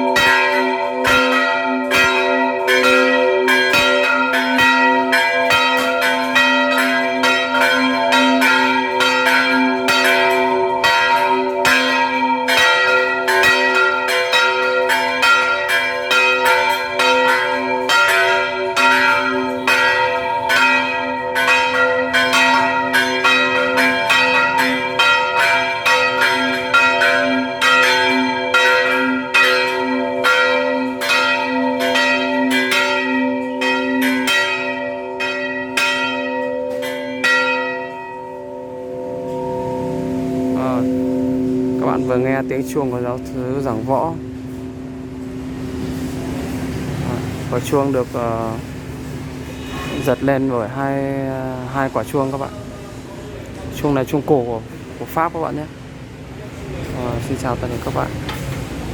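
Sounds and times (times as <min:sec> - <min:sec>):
church bells ringing: 0:00.0 - 0:58.9.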